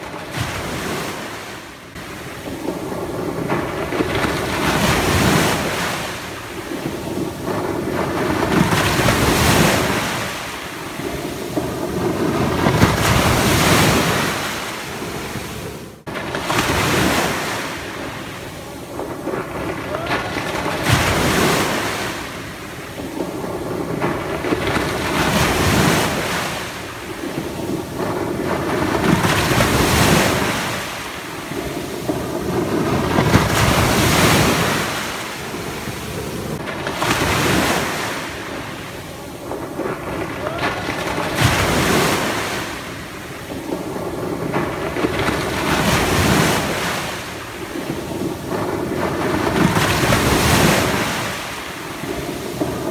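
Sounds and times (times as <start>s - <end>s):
sea waves breaking on beach: 0.0s - 52.9s.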